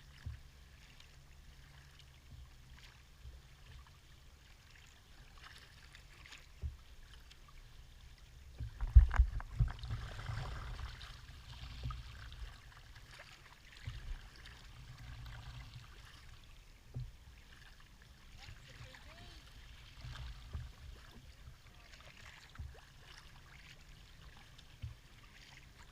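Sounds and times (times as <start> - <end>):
paddle strokes splashing: 0.0 - 25.9.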